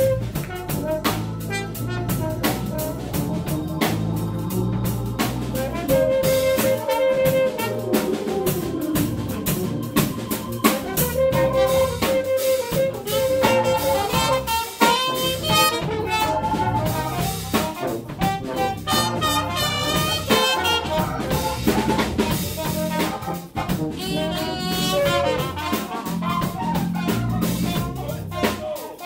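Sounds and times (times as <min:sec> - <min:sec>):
drum kit: 0:00.0 - 0:29.0
jazz band playing blues: 0:00.0 - 0:29.0
saxophone solo: 0:00.0 - 0:29.0.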